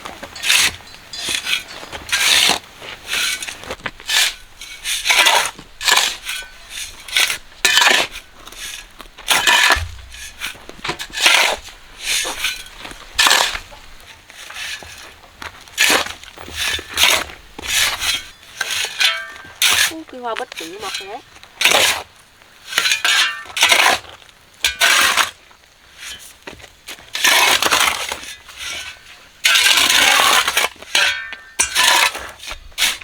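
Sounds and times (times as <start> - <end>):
gritty scraping and crunching strokes: 0.0 - 33.0.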